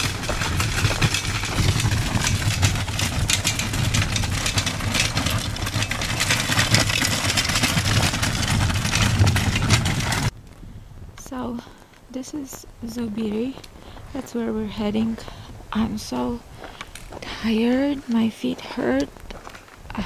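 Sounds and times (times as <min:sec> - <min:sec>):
gravel crunching: 0:00.0 - 0:20.0
trolley wheels rumbling and rattling: 0:00.0 - 0:20.0.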